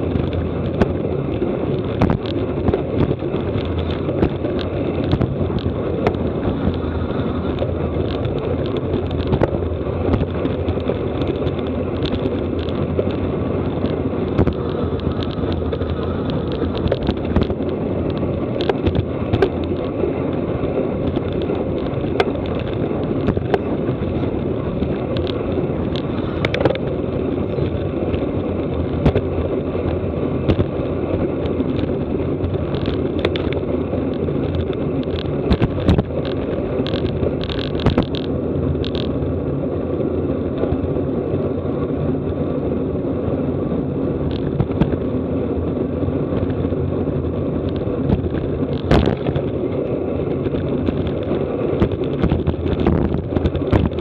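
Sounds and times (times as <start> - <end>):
bicycle tyre noise: 0.0 - 54.0
wind buffeting microphone: 0.0 - 54.0.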